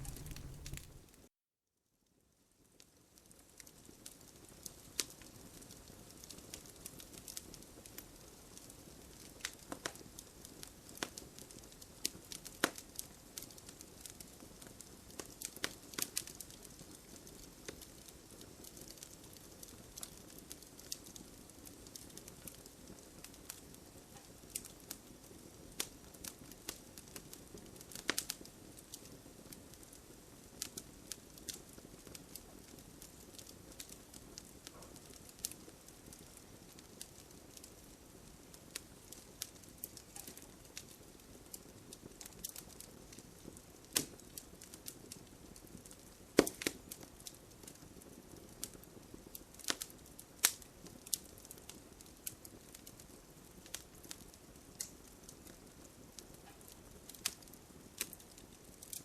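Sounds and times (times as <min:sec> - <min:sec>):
wood fire crackling and popping: 0:00.0 - 0:01.2, 0:03.2 - 0:59.0.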